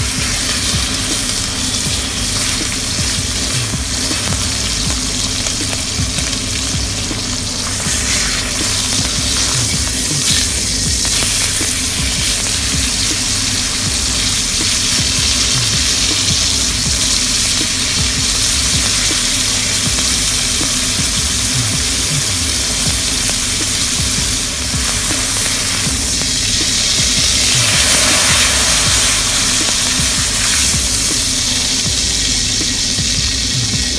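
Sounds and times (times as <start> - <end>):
steak sizzling in oil: 0.0 - 33.9.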